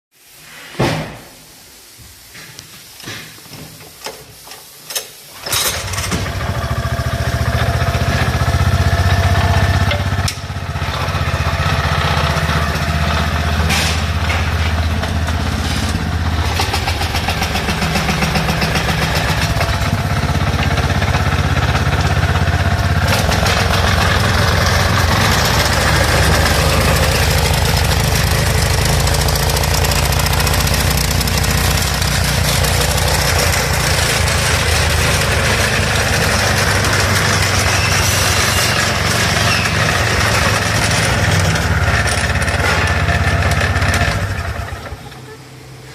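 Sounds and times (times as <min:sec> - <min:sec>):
small gasoline engine running: 0:05.4 - 0:45.4.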